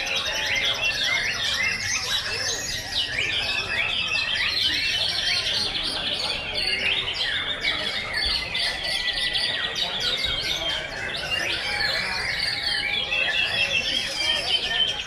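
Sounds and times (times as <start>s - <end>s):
birds singing in chorus: 0.0s - 15.0s.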